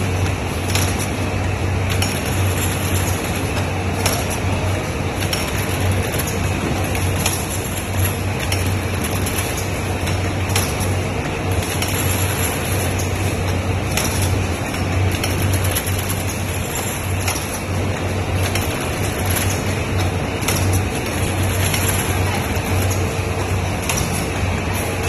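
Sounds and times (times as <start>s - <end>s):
machine humming with low drone: 0.0s - 25.0s.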